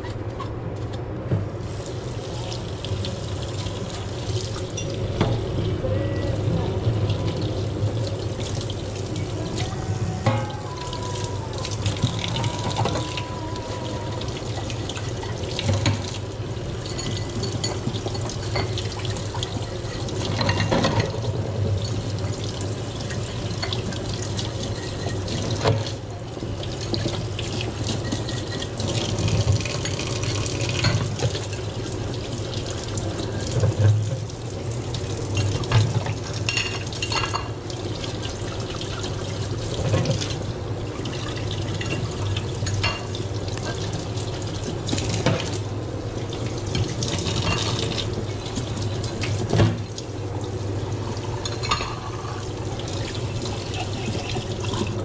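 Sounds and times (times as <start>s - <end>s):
tap water running into sink: 1.8s - 55.0s.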